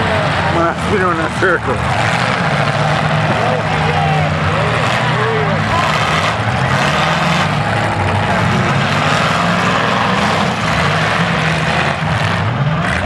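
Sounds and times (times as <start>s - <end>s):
car engines droning: 0.0s - 13.0s.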